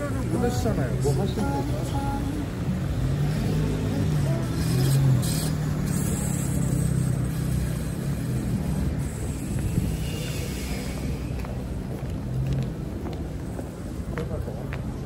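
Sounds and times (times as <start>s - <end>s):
traffic noise: 0.0s - 15.0s
vehicle engine humming: 0.0s - 15.0s.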